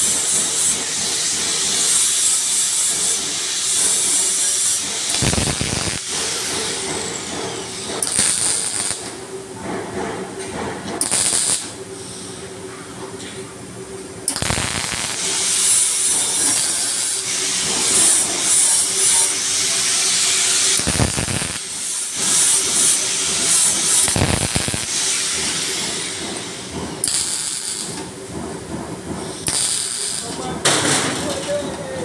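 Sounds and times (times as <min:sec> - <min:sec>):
welding arc crackling and hissing: 0:00.0 - 0:09.3, 0:11.0 - 0:12.3, 0:14.3 - 0:28.6, 0:29.2 - 0:31.9.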